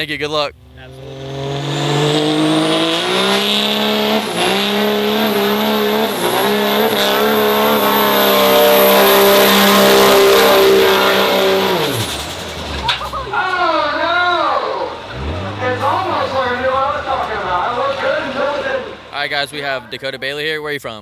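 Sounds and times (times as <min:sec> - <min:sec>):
truck engine at high revs: 0:00.0 - 0:20.4.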